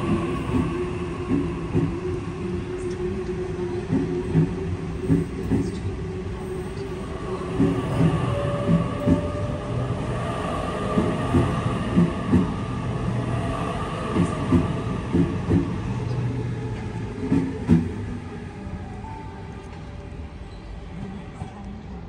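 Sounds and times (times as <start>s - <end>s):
low hum of train: 0.0s - 22.0s.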